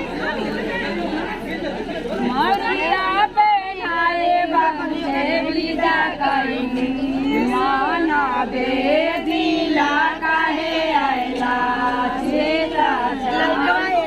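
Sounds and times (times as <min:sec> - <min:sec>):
crowd talking: 0:00.0 - 0:14.0
women singing together: 0:02.2 - 0:14.0.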